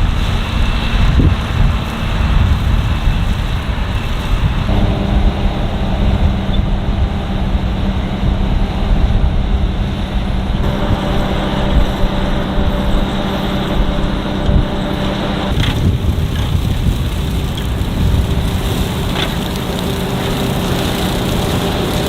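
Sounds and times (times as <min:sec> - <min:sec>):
diesel farm machinery running: 0:00.0 - 0:22.0.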